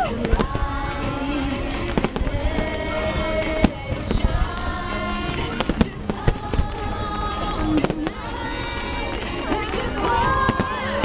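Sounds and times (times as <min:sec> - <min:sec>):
fireworks bangs and crackles: 0:00.0 - 0:11.0
music with held notes: 0:00.0 - 0:11.0.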